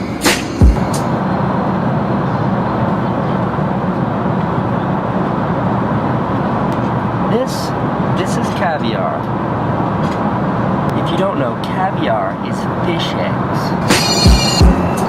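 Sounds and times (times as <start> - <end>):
jet airliner cabin hum: 0.0 - 15.0.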